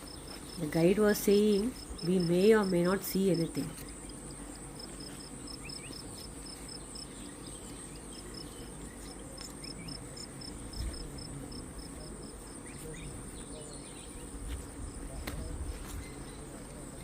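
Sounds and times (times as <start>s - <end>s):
insect chirping: 0.0s - 15.1s.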